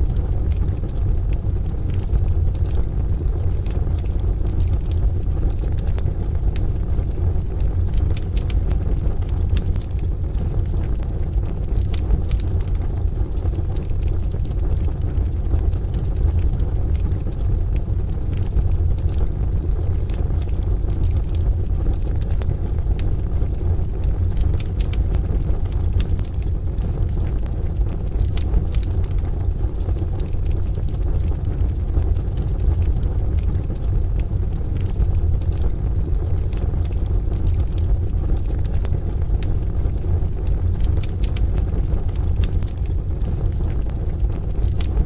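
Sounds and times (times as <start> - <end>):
rain and thunder: 0.0 - 45.0
wood fire crackling: 0.0 - 45.0.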